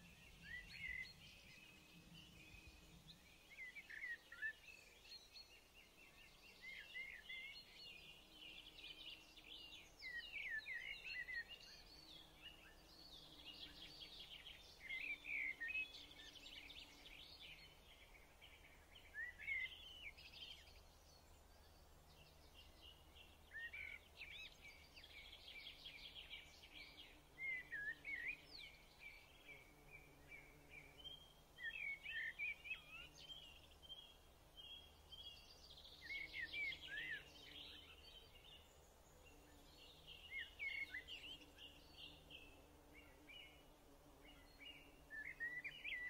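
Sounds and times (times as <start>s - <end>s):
faint birdsong: 0.0s - 46.0s.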